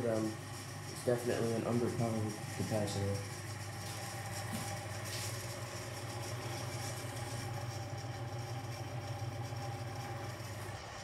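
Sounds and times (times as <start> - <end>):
ceiling fan motor humming: 0.0 - 11.0.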